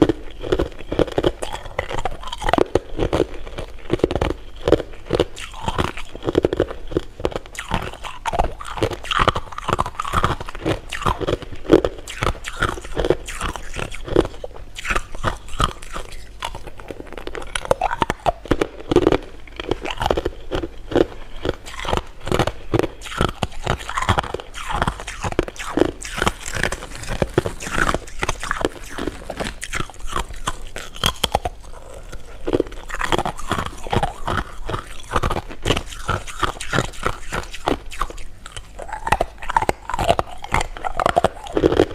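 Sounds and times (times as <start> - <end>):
chewing and crunching sweets: 0.0 - 41.9.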